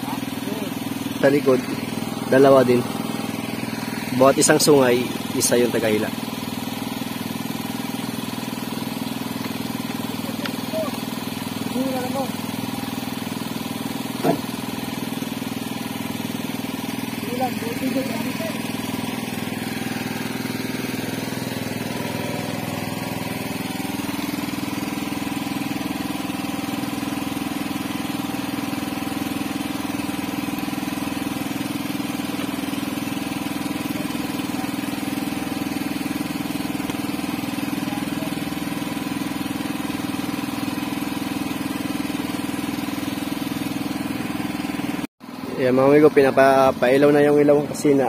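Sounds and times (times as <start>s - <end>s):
small boat engine humming: 0.0s - 48.0s.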